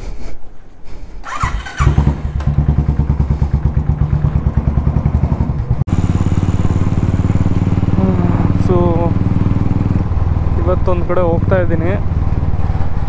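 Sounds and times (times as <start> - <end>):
motorcycle engine running: 1.3 - 13.0.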